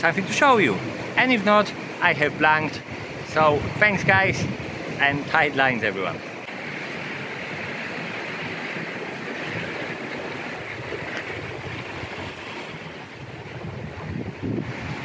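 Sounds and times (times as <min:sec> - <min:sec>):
sea surf washing: 0:00.0 - 0:15.0
wind gusting over microphone: 0:00.0 - 0:15.0.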